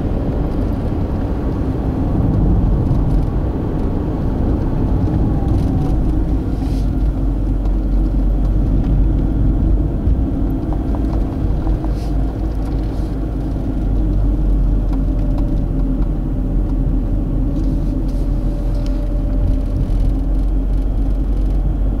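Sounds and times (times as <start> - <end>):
car engine and road rumble: 0.0 - 22.0
faint engine hum: 0.0 - 22.0.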